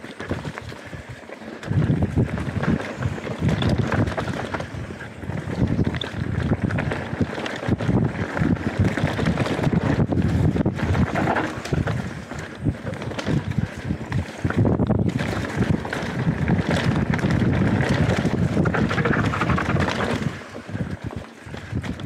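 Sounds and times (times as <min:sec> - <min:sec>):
bike rattling and knocking: 0:00.0 - 0:22.0
bike tyres rolling over dirt: 0:00.0 - 0:22.0
wind buffeting microphone: 0:00.0 - 0:22.0.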